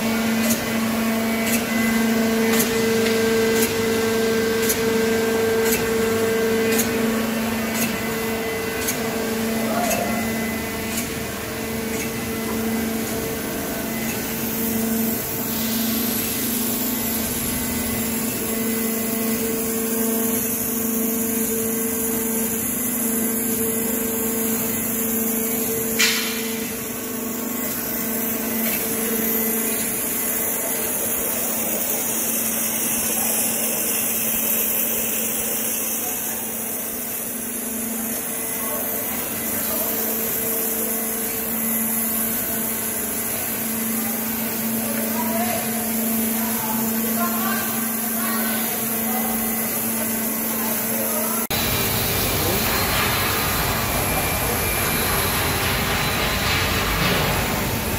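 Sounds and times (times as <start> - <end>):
waterjet cutting machine hum: 0.0 - 57.9.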